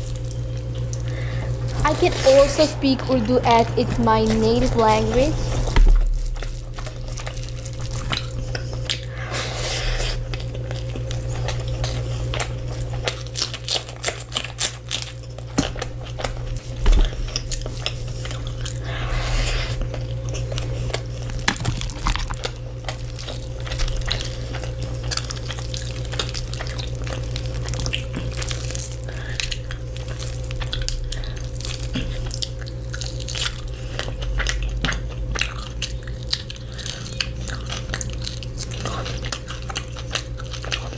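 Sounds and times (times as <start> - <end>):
person chewing crunchy food: 0.0 - 2.7, 4.2 - 40.9
steady low hum: 0.0 - 40.9.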